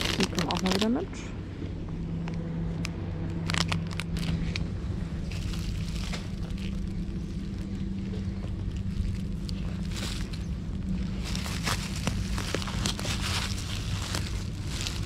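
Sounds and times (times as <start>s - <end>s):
handling crackles and rustles: 0.0s - 15.0s
low mechanical hum: 0.0s - 15.0s.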